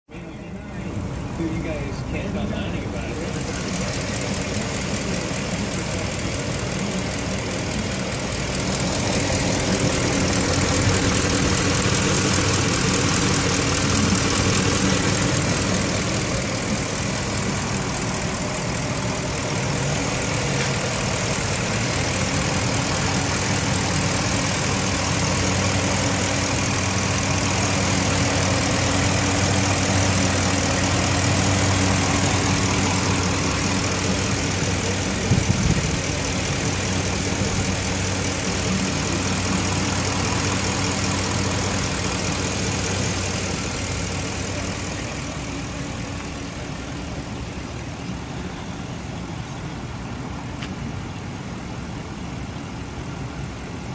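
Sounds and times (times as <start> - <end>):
truck engine idling: 0.1 - 53.9.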